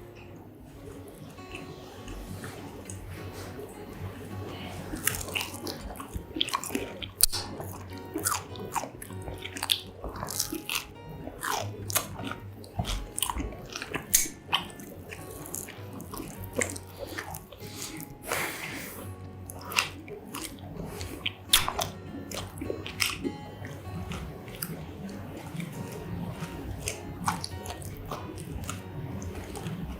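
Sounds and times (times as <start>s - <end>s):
wet chewing: 0.0s - 29.9s.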